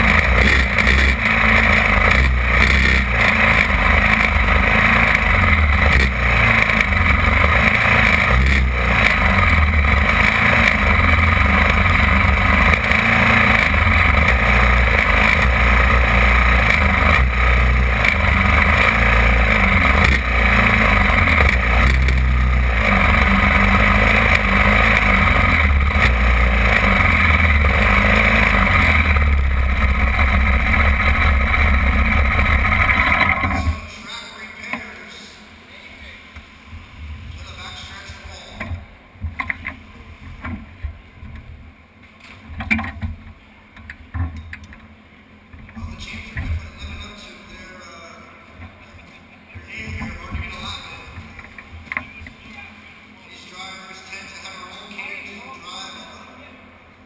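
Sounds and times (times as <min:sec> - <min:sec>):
kart engines idling: 0:00.0 - 0:57.0.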